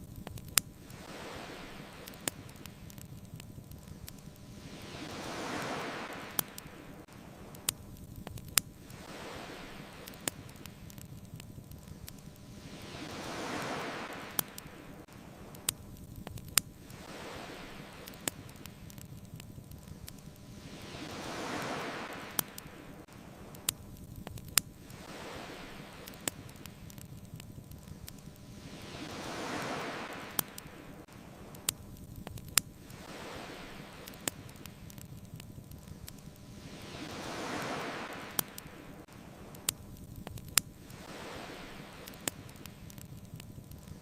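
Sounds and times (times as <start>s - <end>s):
campfire crackling pops: 0.0s - 44.0s
ocean waves washing in: 0.0s - 44.0s.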